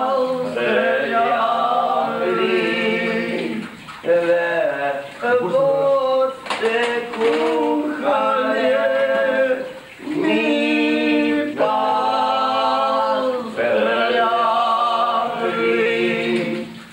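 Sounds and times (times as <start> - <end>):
men singing a cappella: 0.0 - 16.9.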